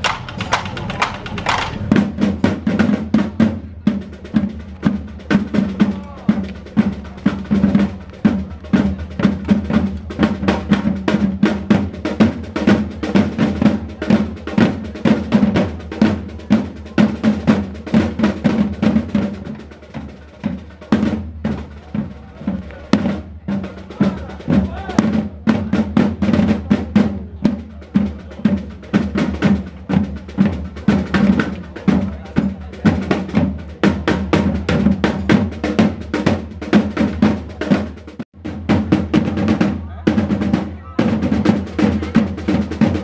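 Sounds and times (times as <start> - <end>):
side drums playing fast rhythm: 0.0 - 43.0.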